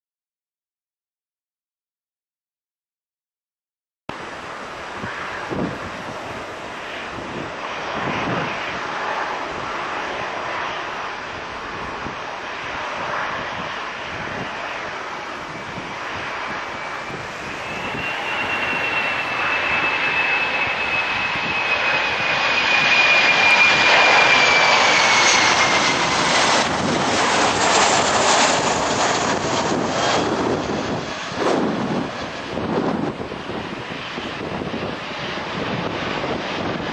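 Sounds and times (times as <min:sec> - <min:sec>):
jet engines whining: 0:04.1 - 0:36.9.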